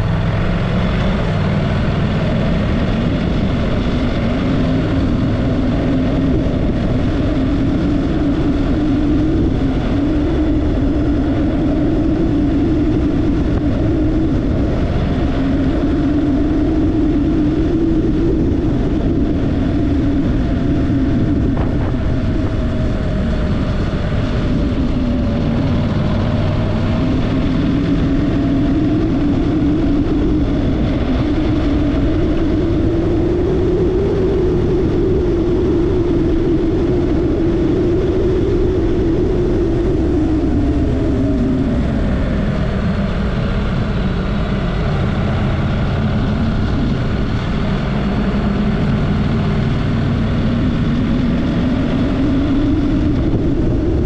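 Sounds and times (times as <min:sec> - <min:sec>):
low rushing noise: 0:00.0 - 0:54.0
motorcycle engine running: 0:00.0 - 0:54.0.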